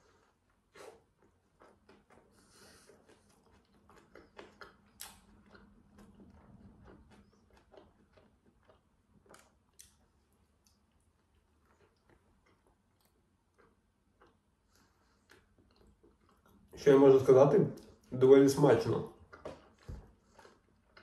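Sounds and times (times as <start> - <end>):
person chewing: 0.0 - 16.8, 19.1 - 21.0.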